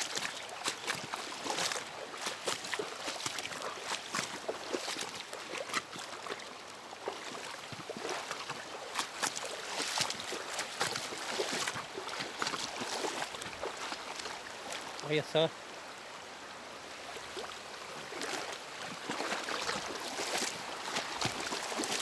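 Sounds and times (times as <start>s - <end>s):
boots splashing through water: 0.0s - 15.4s, 16.9s - 22.0s
rushing water: 0.0s - 22.0s.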